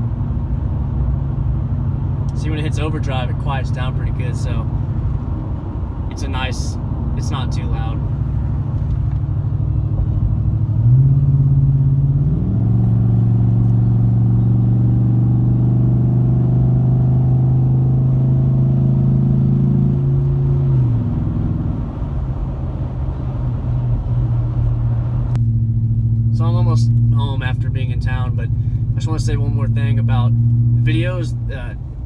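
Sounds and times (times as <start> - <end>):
truck engine droning: 0.0 - 32.0.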